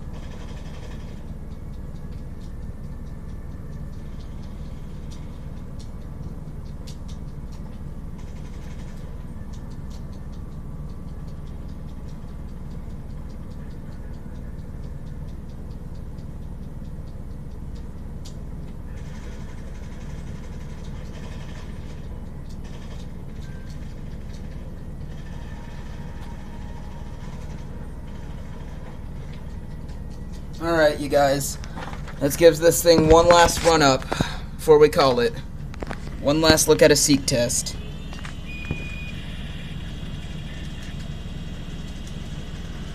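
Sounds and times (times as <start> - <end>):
computer equipment humming: 0.0 - 42.9.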